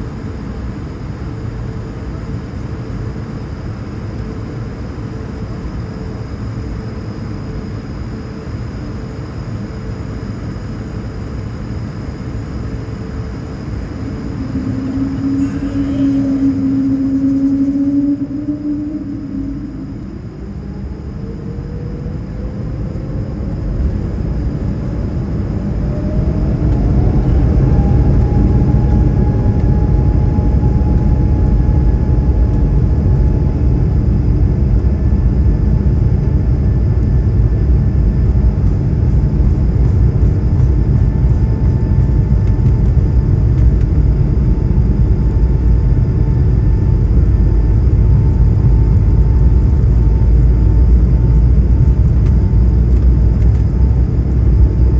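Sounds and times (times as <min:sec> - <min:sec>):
jet engines whining: 0:00.0 - 0:54.9
low rumble of takeoff roll: 0:09.6 - 0:54.9.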